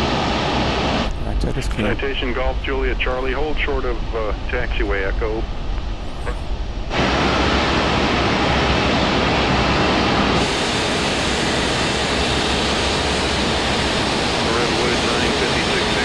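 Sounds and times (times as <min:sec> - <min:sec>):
jet aircraft rushing noise: 0:00.0 - 0:16.0.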